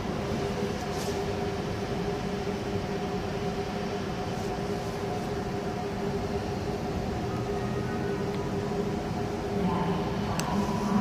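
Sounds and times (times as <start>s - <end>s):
electric locomotive hum: 0.0s - 11.0s.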